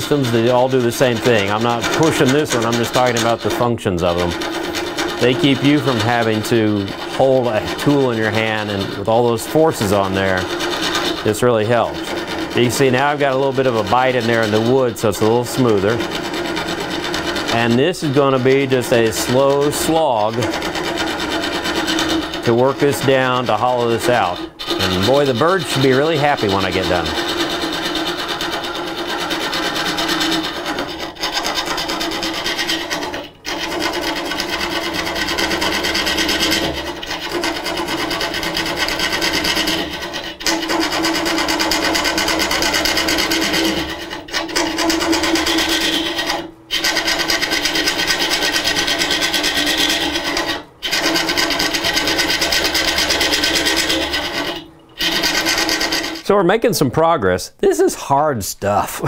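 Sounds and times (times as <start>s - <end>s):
lathe tool scraping wood: 0.0s - 56.5s.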